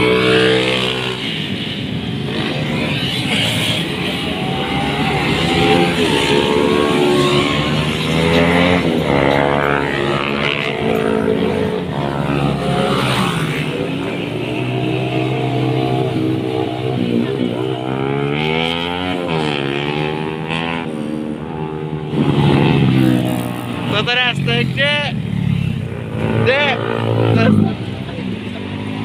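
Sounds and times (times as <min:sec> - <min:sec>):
motorcycle engines revving past: 0:00.0 - 0:29.0.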